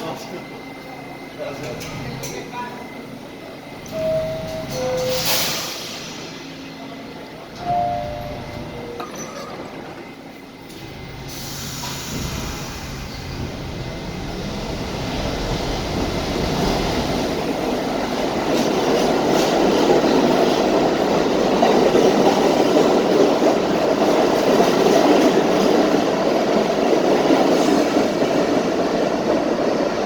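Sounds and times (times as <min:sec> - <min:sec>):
subway train running on track: 0:00.0 - 0:30.0.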